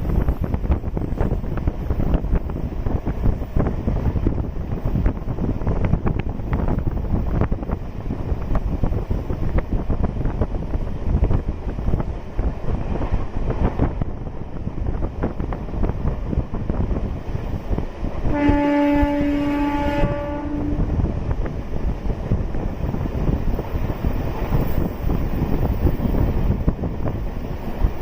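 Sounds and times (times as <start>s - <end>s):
train rumbling and rattling: 0.0s - 28.0s
wind buffeting microphone: 0.0s - 28.0s.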